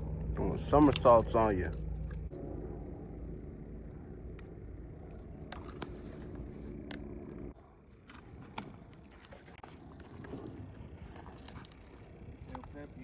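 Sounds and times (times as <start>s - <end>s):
motor humming at low pitch: 0.0s - 13.0s.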